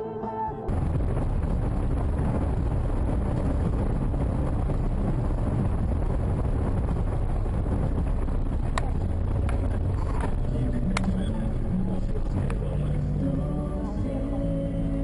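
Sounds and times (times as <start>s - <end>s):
car road and wind noise: 0.7s - 15.0s.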